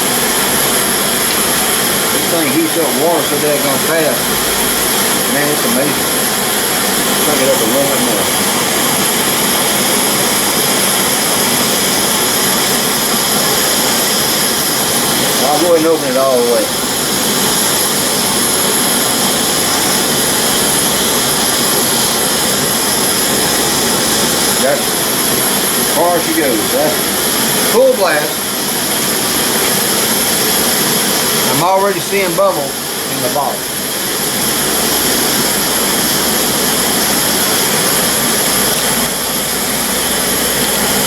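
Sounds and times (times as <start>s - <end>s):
gas stove burner hissing: 0.0s - 41.0s.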